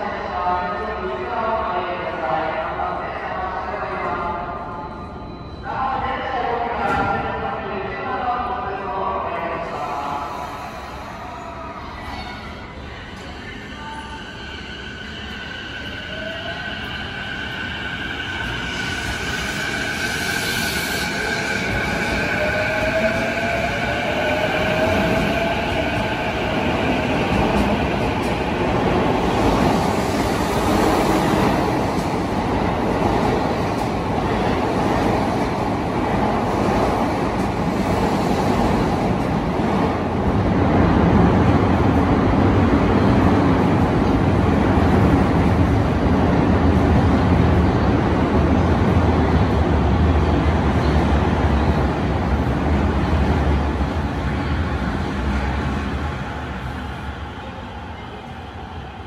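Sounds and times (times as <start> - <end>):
deep rumble of passing train: 8.3 - 59.0.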